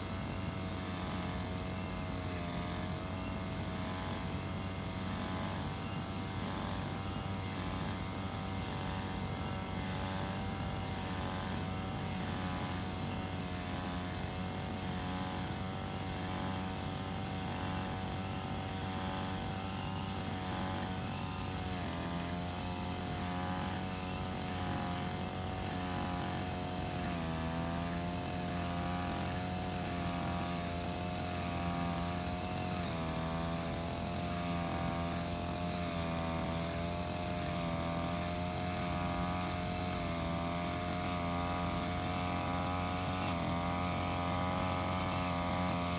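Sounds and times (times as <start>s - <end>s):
brush cutter cutting grass: 0.0s - 45.9s.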